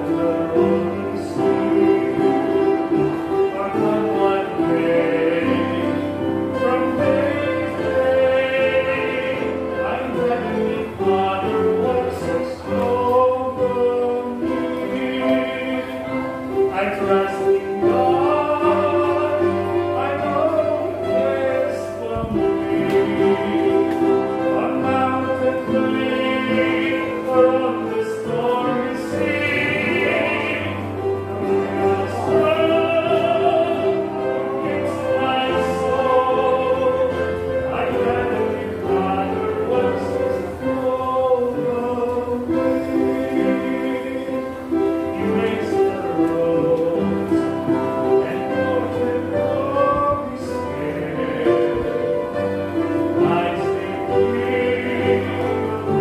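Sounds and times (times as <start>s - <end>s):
upright piano: 0.0s - 56.0s
voices singing a hymn: 0.0s - 56.0s.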